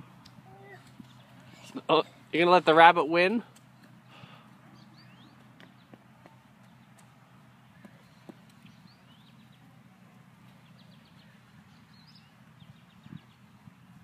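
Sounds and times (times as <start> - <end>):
small birds chirping: 0.2 - 2.3, 3.5 - 14.0.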